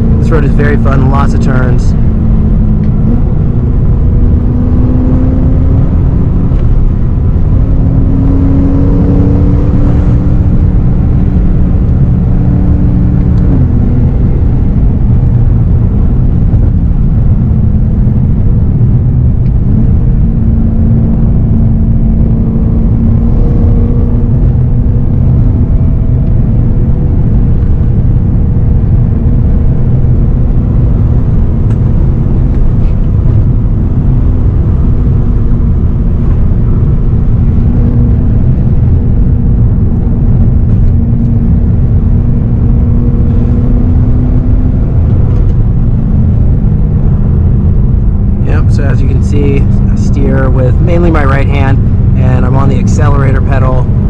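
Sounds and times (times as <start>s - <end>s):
car engine accelerating: 0.0s - 54.0s
low road rumble: 0.0s - 54.0s.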